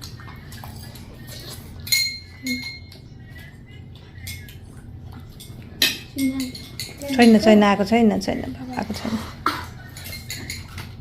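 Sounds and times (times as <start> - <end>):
cutlery clinking against dishes: 0.0 - 7.5, 8.7 - 11.0.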